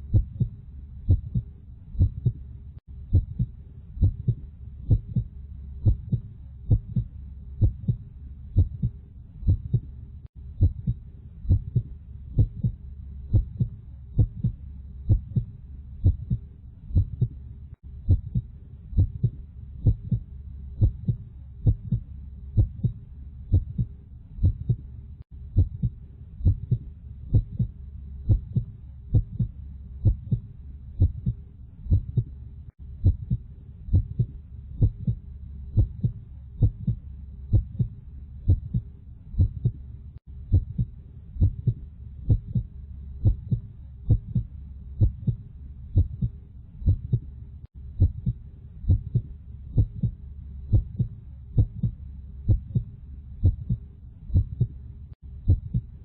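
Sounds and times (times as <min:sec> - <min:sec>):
heartbeat thumps: 0:00.0 - 0:56.0
low steady hum: 0:00.0 - 0:56.0.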